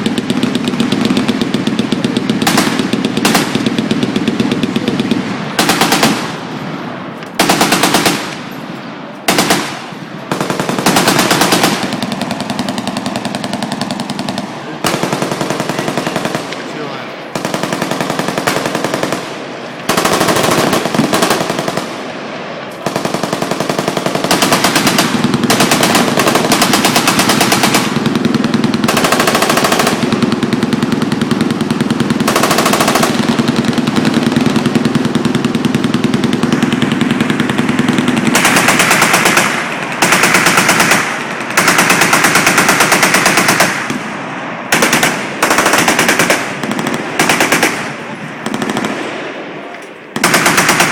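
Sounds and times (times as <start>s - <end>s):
machine guns firing bursts: 0.0s - 6.4s, 7.3s - 8.6s, 9.3s - 22.0s, 22.8s - 44.1s, 44.7s - 49.2s, 50.1s - 50.9s.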